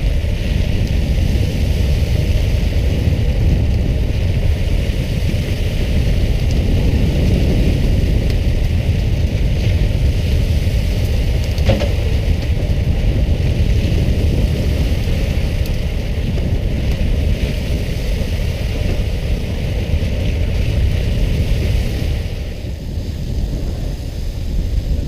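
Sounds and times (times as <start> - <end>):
boat engine running: 0.0 - 25.0
wind rumble on microphone: 0.0 - 25.0.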